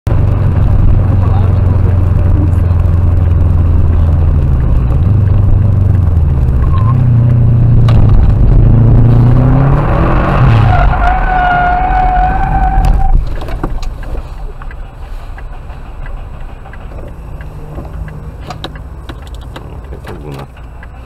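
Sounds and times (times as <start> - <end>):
car engine accelerating: 0.1 - 21.0.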